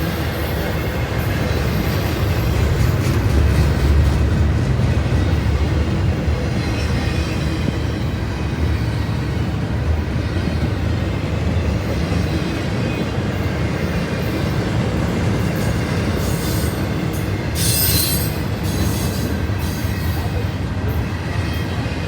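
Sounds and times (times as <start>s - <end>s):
train rumbling past: 0.0s - 22.0s
wheels screeching on rails: 0.0s - 22.0s.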